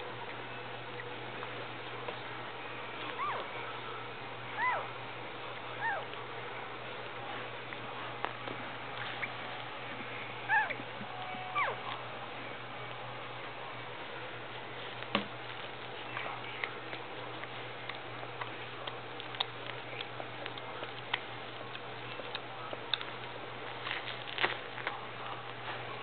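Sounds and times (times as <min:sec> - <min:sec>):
puppies suckling: 0:00.0 - 0:26.0
steady low hum: 0:00.0 - 0:26.0.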